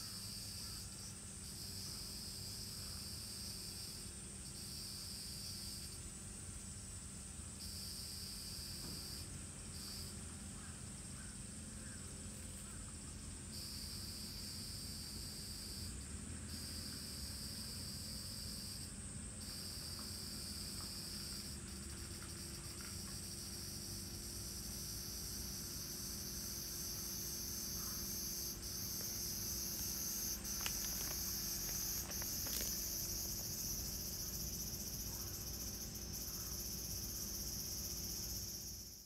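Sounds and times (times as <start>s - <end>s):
cicadas high-pitched chorus: 0.0s - 39.0s
lower insect call: 0.0s - 39.0s.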